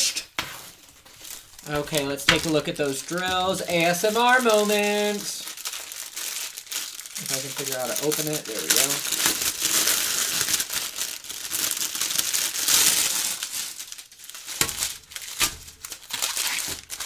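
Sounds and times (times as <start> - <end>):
plastic packaging crinkling: 0.6 - 17.0.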